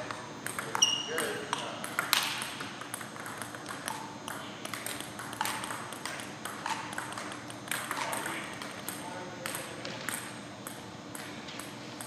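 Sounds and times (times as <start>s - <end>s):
table tennis ball clicking: 0.0s - 12.0s.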